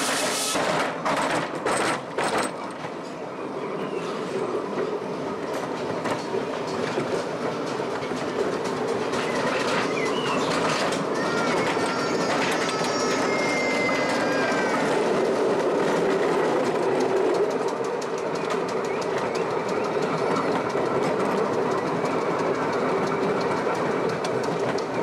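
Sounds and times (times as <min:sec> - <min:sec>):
wheels clicking over rail joints: 0:00.0 - 0:03.2, 0:04.7 - 0:25.0.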